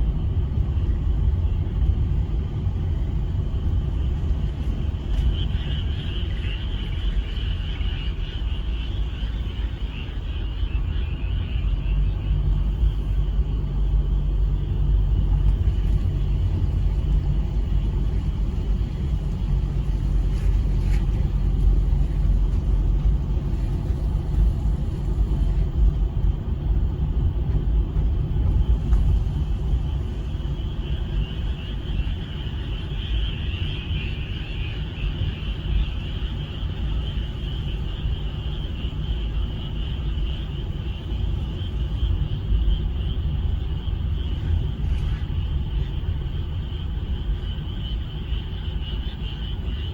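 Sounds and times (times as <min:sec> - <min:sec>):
low rumble: 0:00.0 - 0:49.9
frogs chorusing: 0:03.3 - 0:49.9.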